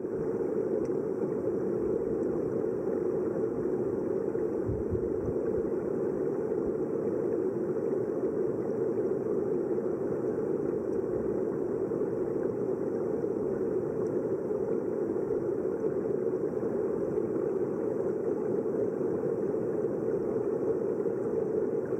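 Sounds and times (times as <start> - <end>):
muffled river water underwater: 0.0 - 21.9.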